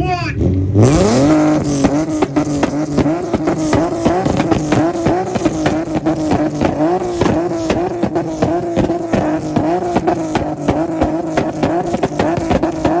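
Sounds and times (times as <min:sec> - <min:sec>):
engine on rev limiter: 0:00.3 - 0:13.0
exhaust pops and bangs: 0:00.9 - 0:13.0.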